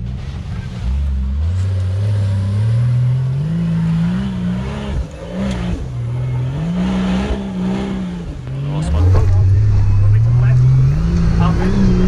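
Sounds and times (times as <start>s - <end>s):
truck engine revving hard: 0.8s - 12.0s.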